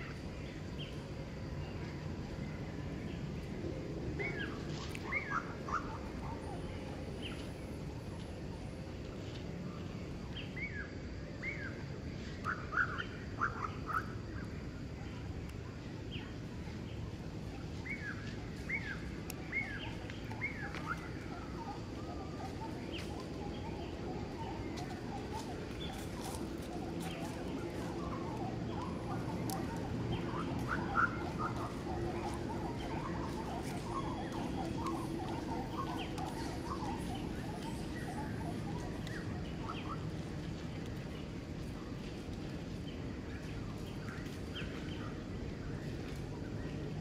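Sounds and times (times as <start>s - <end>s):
low background noise: 0.0s - 47.0s.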